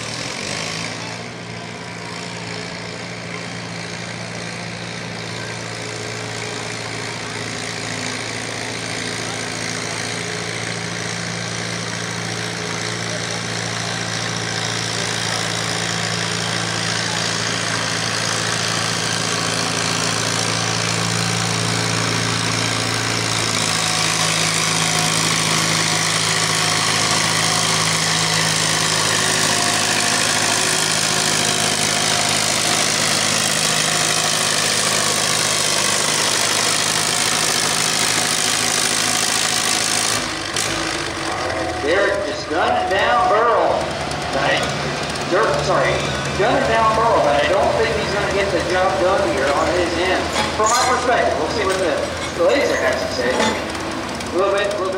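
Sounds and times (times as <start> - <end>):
tractor engine pulling under load: 0.0 - 54.9.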